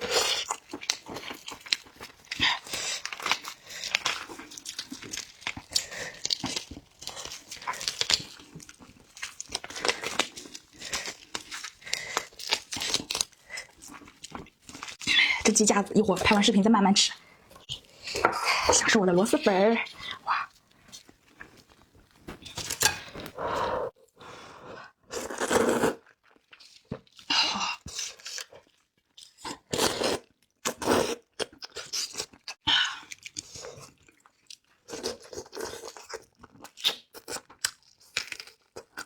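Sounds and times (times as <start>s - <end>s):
person chewing and crunching: 0.0s - 15.6s, 19.3s - 24.0s, 25.1s - 39.0s.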